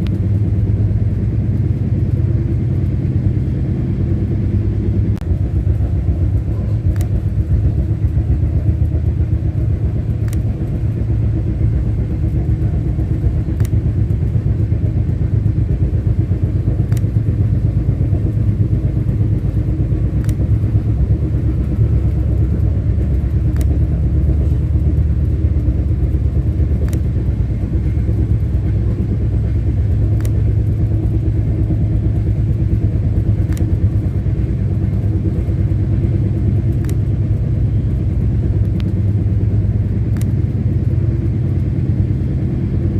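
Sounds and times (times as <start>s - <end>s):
train rumbling on rails: 0.0s - 42.9s
faint rail clicks: 5.1s - 17.4s, 18.0s - 42.2s.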